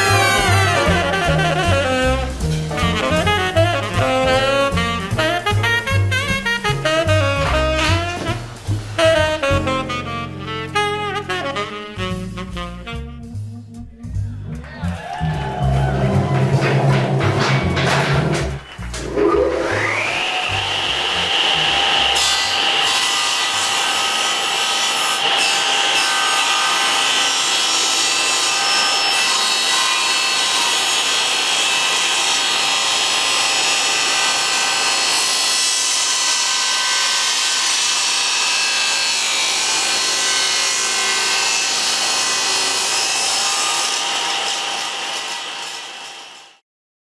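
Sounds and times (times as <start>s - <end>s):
table saw cutting wood: 0.0s - 12.2s, 16.0s - 46.6s.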